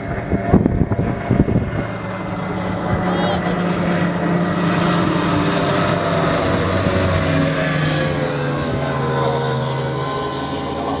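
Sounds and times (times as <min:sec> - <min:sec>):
outboard engine passing by: 0:00.0 - 0:11.0.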